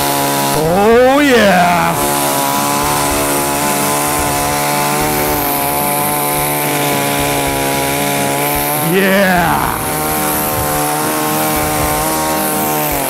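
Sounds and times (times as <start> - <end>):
chainsaw running: 0.0 - 13.0.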